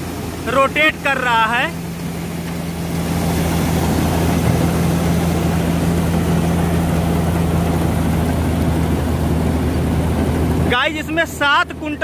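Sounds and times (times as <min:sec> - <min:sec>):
tractor engine hum: 0:00.0 - 0:12.0.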